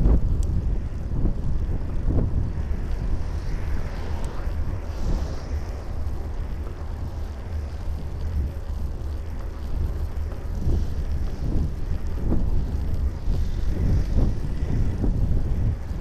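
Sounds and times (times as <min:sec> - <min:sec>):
road traffic passing: 0:00.0 - 0:16.0
wind buffeting microphone: 0:00.0 - 0:16.0.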